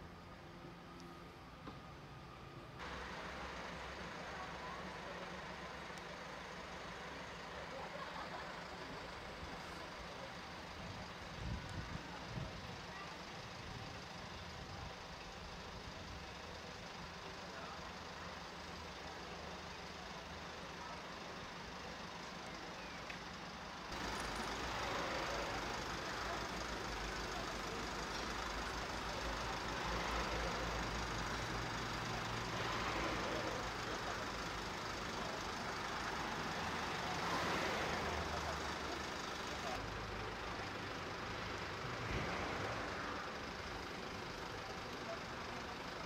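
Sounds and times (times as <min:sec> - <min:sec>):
street ambience: 0:00.0 - 0:46.0
vehicle engine idling: 0:00.0 - 0:46.0.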